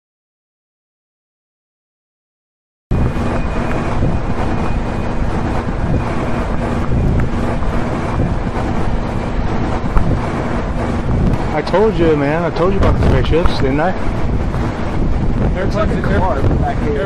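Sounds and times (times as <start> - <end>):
wind buffeting microphone: 2.9 - 17.0.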